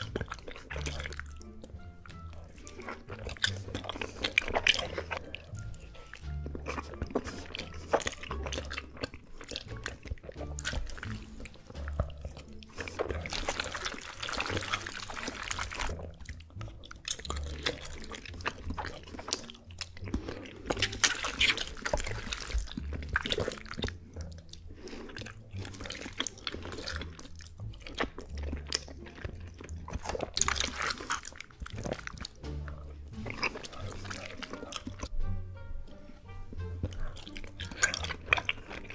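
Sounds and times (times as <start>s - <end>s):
chewing: 0.0s - 35.3s, 35.9s - 38.9s
background music with bass line: 0.0s - 38.9s.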